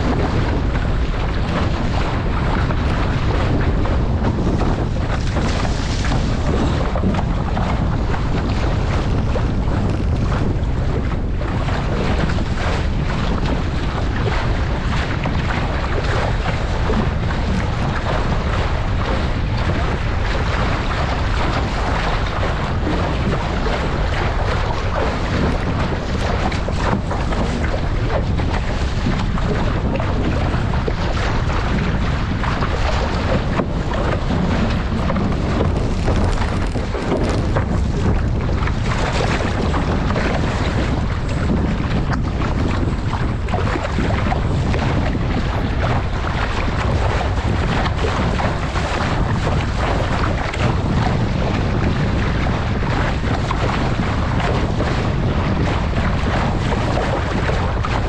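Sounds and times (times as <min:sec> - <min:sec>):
water splashing along a hull: 0:00.0 - 0:58.0
wind buffeting microphone: 0:00.0 - 0:58.0.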